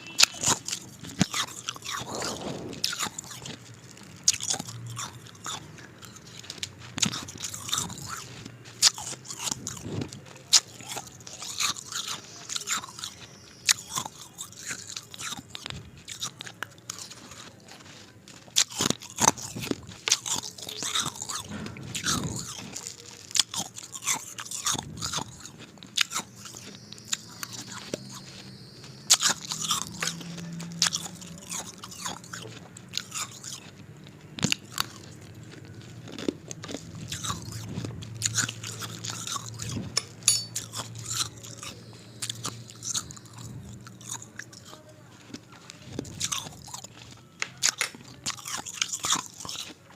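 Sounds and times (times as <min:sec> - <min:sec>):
ice being chewed and crunched: 0:00.0 - 0:49.9.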